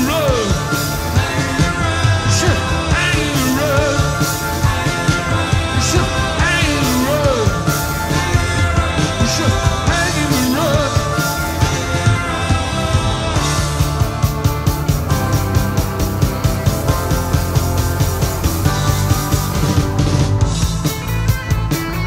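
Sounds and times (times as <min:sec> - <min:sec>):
bending lead guitar line: 0:00.0 - 0:22.0
driving bass: 0:00.0 - 0:22.0
drums: 0:00.0 - 0:22.0.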